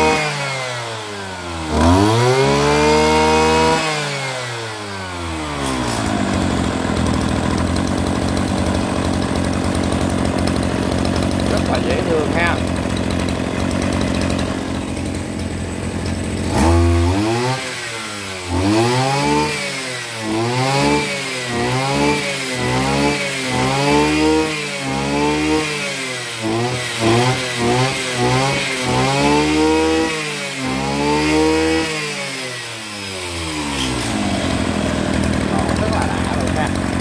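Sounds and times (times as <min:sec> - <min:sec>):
brush cutter engine revving: 0:00.0 - 0:37.0.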